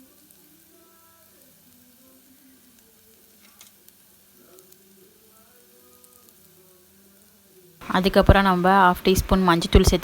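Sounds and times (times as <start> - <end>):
spices sizzling in oil: 0.0 - 10.0.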